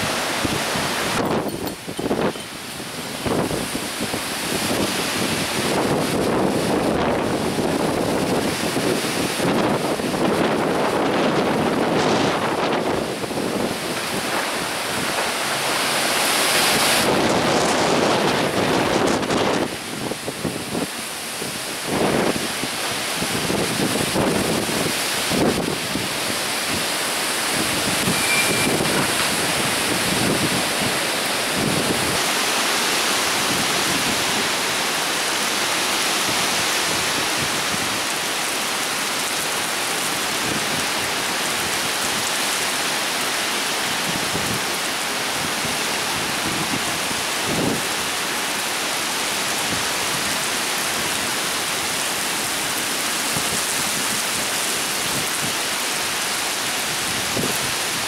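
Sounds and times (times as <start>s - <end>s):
torrential rain hissing: 0.0s - 58.0s.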